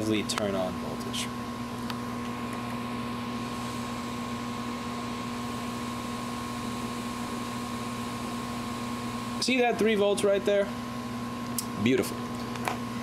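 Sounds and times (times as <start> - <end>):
steady hum with constant tones: 0.0 - 13.0.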